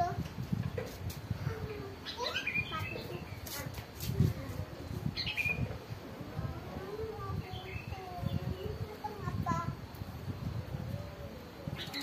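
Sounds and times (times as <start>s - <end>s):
songbirds chirping: 0.6s - 12.0s.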